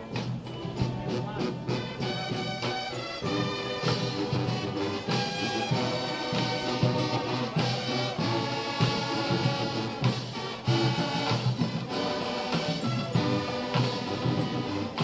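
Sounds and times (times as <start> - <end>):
drum strikes: 0.0 - 15.0
marching band brass: 0.0 - 15.0.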